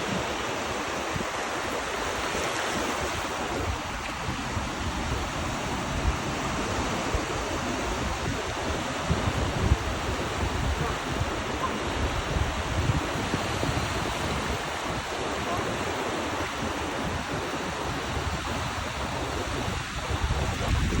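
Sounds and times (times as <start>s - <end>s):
waves breaking on shore: 0.0s - 21.0s
wind rumbling on microphone: 0.0s - 21.0s.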